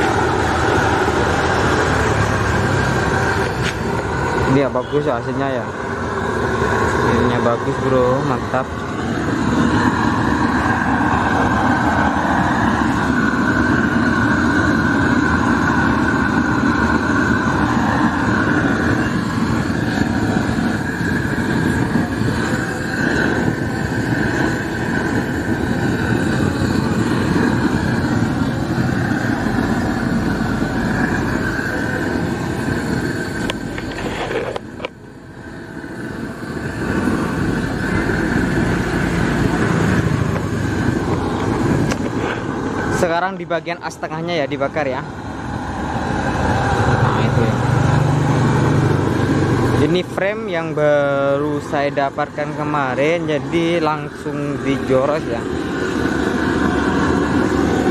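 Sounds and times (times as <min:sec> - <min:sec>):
gas torch flame roaring: 0:00.0 - 0:57.9.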